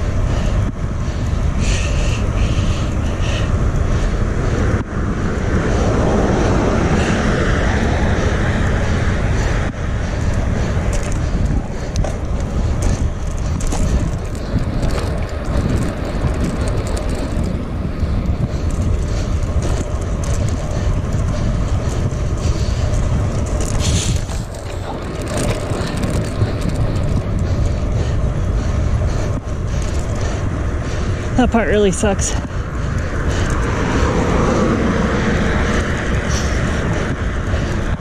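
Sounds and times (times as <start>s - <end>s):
bicycle road noise: 0.0s - 38.0s
wind buffeting microphone: 0.0s - 38.0s.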